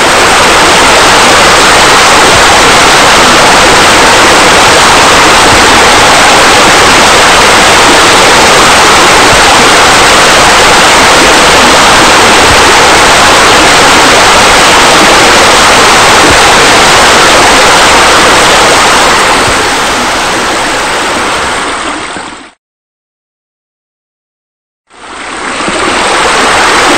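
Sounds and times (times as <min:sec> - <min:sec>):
running water rushing: 0:00.0 - 0:22.6, 0:24.9 - 0:26.9.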